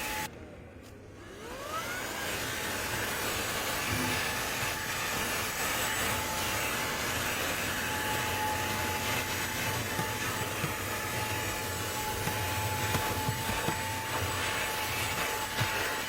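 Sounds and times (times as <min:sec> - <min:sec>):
handheld vacuum running: 0:01.2 - 0:16.0.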